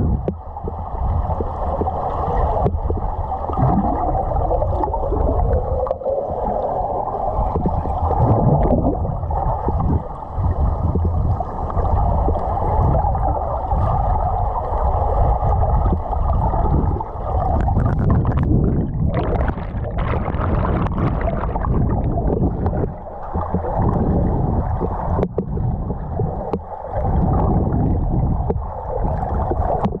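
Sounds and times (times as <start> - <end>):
muffled underwater water rush: 0.0 - 30.0
water splashing: 0.0 - 30.0.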